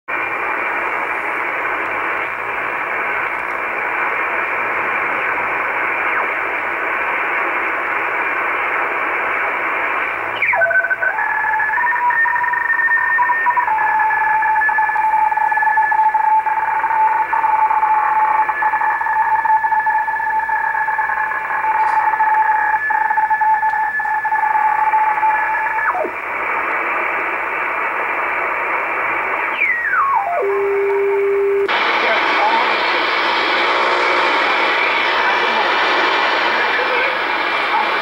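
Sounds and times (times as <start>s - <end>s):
radio static hiss: 0.1s - 38.0s
two steady radio tones: 0.1s - 38.0s.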